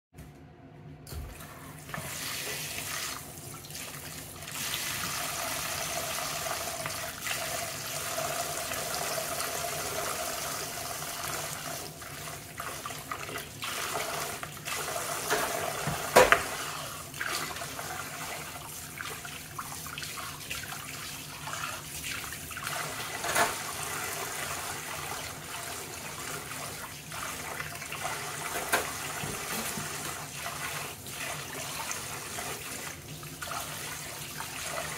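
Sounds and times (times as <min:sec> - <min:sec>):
faucet running into a bowl: 0:01.3 - 0:34.9.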